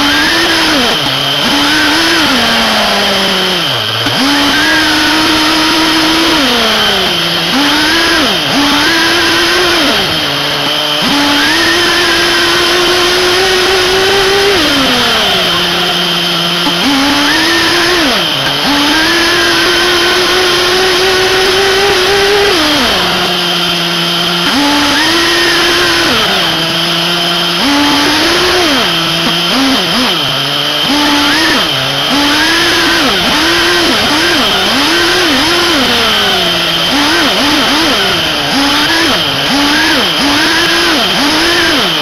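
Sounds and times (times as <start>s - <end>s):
model engine revving: 0.0s - 42.0s.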